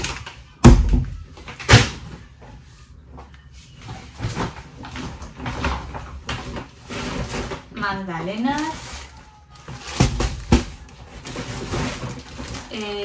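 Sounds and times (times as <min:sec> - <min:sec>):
shopping bags rustling: 0:00.0 - 0:13.0.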